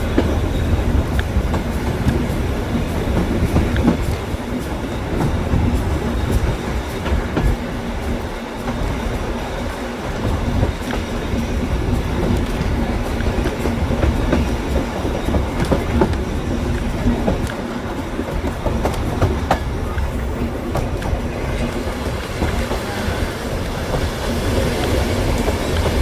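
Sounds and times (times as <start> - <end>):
train rumbling on track: 0.0 - 26.0
wheels clicking over rail joints: 0.0 - 26.0.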